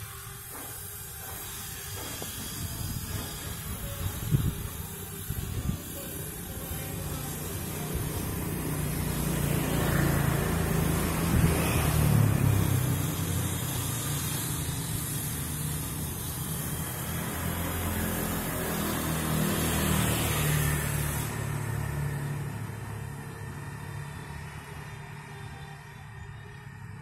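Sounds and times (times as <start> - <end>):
vehicle engine hum: 2.4 - 27.0.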